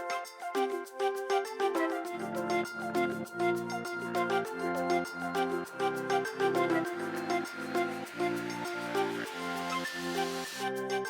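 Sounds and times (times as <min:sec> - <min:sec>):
plucked instrument melody: 0:00.0 - 0:09.7.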